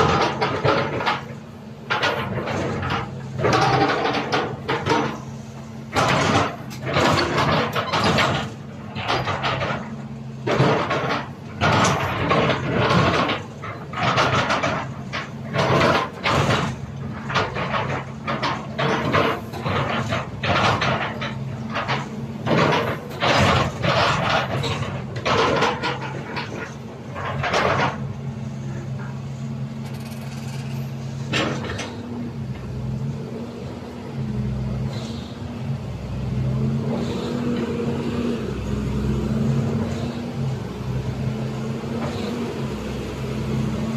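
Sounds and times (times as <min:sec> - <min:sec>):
metallic clanking and squealing: 0:00.0 - 0:33.1, 0:34.8 - 0:37.8, 0:38.5 - 0:43.7
diesel engine running: 0:00.0 - 0:43.9.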